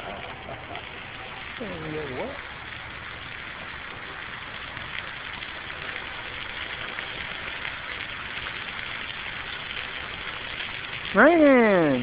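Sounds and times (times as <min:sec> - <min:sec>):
sprinkler water falling like rain: 0:00.0 - 0:12.0.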